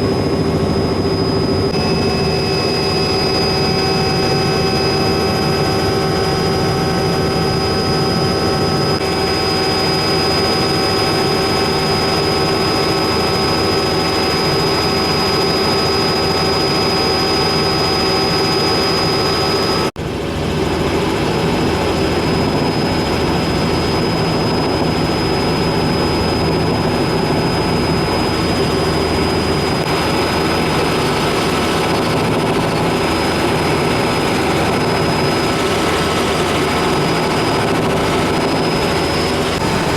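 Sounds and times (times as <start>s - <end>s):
helicopter engine and rotor drone: 0.0s - 39.9s
high steady whine: 0.0s - 39.9s.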